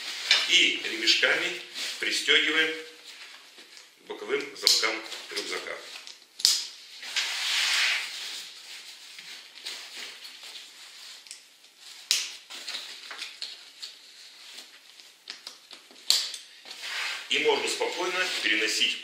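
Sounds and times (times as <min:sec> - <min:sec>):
straps and fabric bags rustling: 0:00.0 - 0:06.2, 0:06.8 - 0:19.0.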